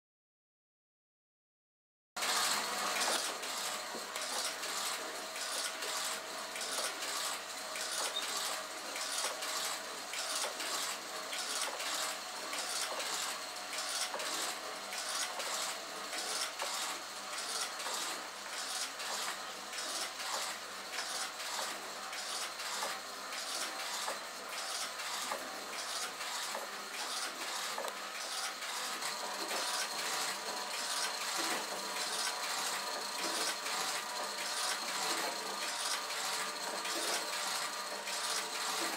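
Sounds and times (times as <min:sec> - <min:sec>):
clockwork gears clicking: 0:02.2 - 0:38.9.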